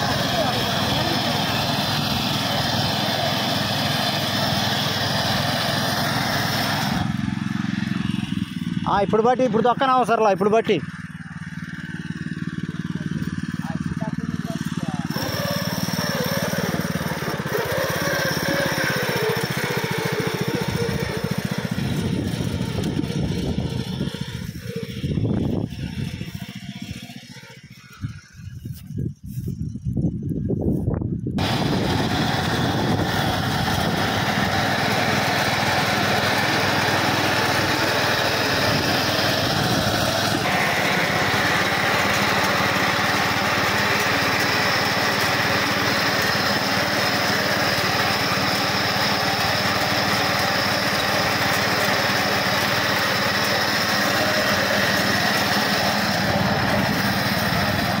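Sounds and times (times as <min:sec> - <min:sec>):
cutter bar mowing weeds: 0:00.0 - 0:30.8, 0:31.4 - 0:58.0
weeder engine running: 0:00.0 - 0:58.0.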